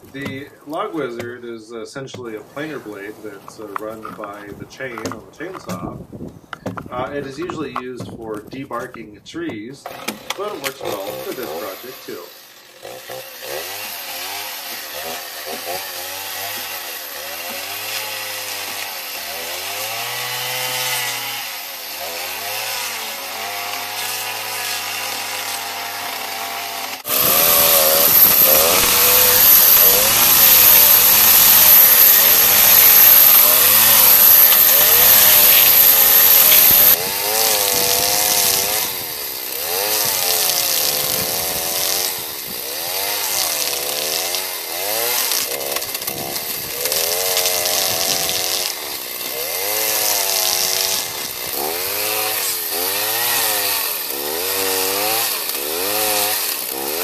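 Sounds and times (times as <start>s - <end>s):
planer shaving log: 0.0s - 1.4s, 2.0s - 6.0s, 6.6s - 57.0s
chainsaw engine: 9.6s - 57.0s.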